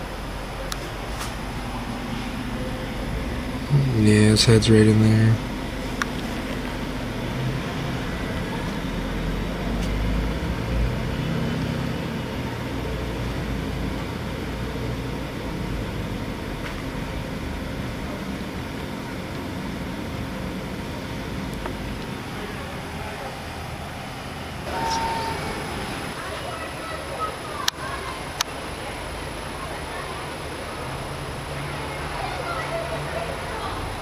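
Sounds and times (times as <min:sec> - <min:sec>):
low rumble and hiss: 0:00.0 - 0:34.0.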